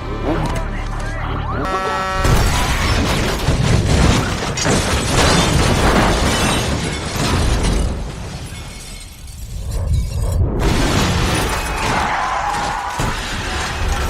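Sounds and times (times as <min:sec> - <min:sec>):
crashes and booms: 0:02.3 - 0:14.0.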